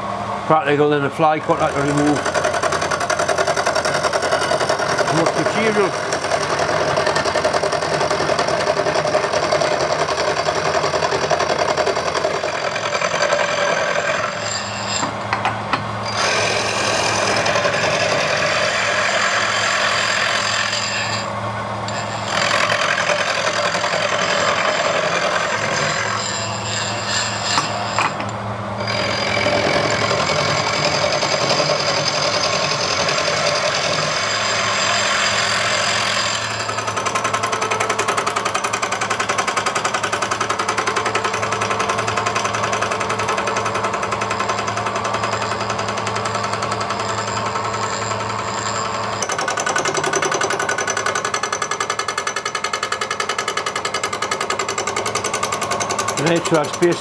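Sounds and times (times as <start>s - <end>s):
milling cutter rasping metal: 1.5s - 21.3s, 21.9s - 39.7s, 45.3s - 57.0s.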